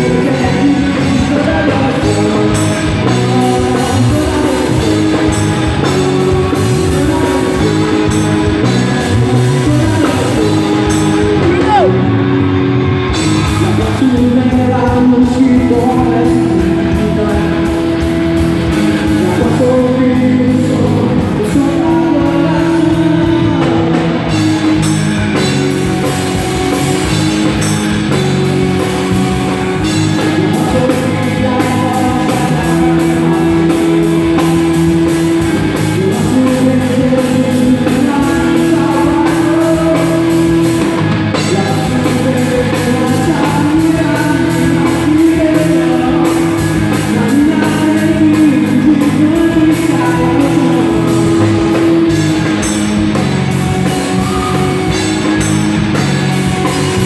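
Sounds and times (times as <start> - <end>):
live rock band playing: 0.0 - 57.0
person singing lead vocal: 0.0 - 57.0.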